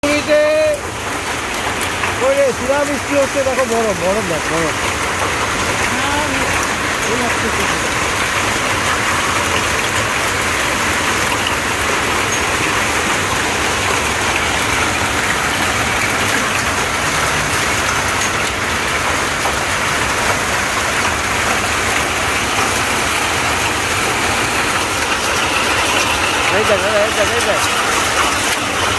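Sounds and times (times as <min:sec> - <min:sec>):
hail and heavy rain pelting: 0:00.0 - 0:28.9.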